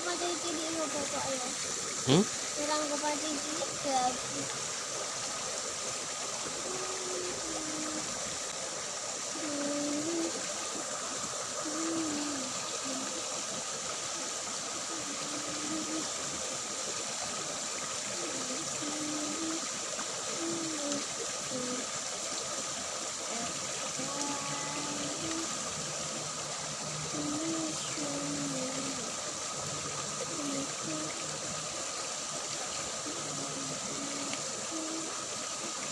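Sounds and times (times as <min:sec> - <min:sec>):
water rushing along a ditch: 0:00.0 - 0:35.9.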